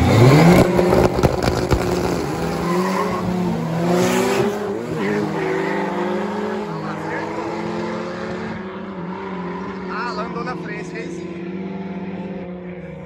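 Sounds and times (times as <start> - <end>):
pickup engine accelerating: 0.0 - 13.0.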